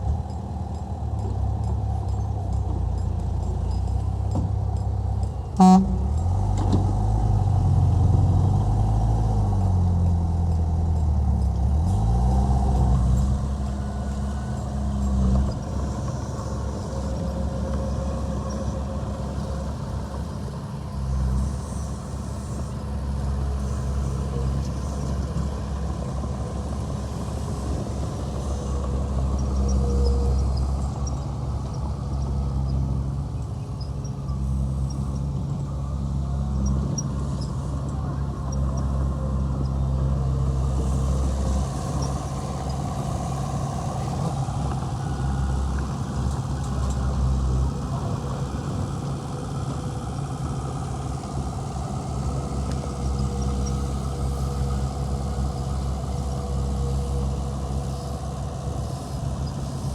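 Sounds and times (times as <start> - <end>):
heavy diesel engines working: 0.0 - 59.9.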